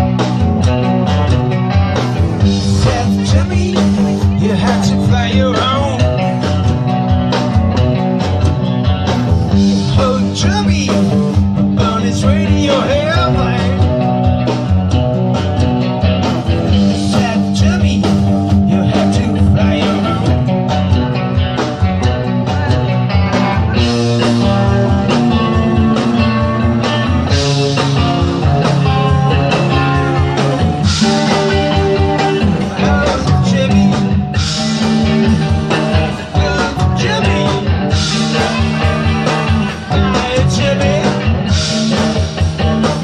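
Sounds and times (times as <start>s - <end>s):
rock band playing live: 0.0s - 43.0s.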